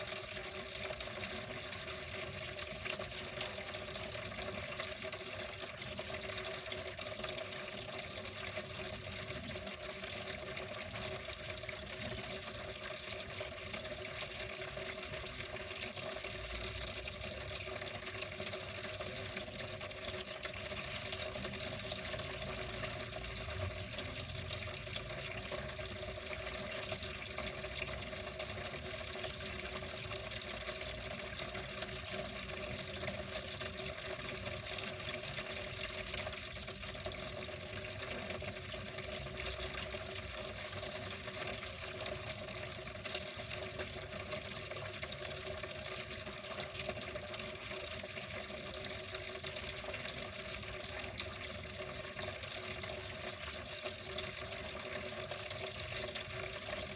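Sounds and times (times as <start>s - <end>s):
water flowing steadily: 0.0s - 56.9s.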